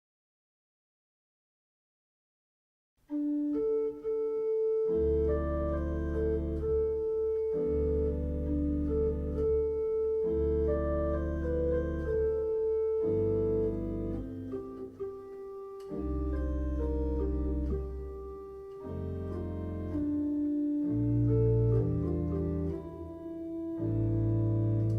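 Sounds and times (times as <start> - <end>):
church organ chords: 3.1 - 24.9
deep organ pedal bass notes: 3.1 - 24.9.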